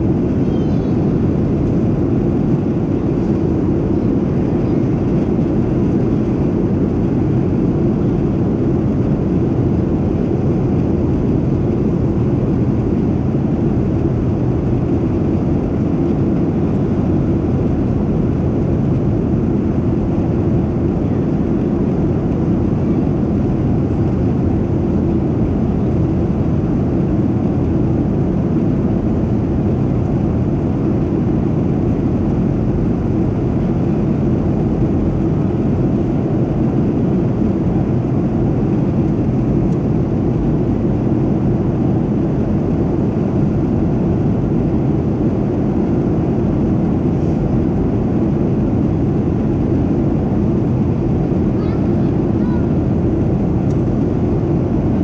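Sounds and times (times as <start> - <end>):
jet engines in flight: 0.0 - 55.0.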